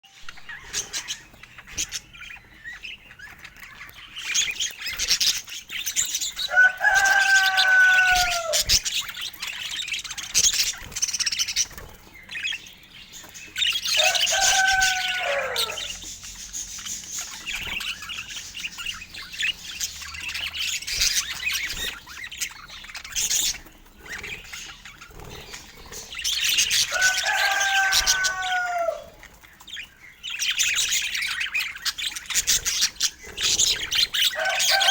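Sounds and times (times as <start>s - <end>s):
budgerigars chirping and warbling: 0.1s - 34.9s.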